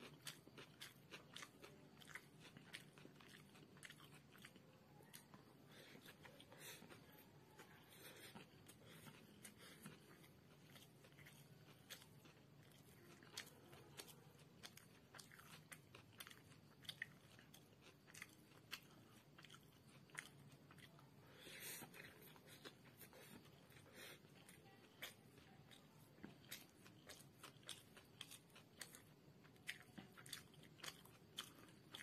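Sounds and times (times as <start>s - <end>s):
chewing crunches: 0.0s - 32.0s.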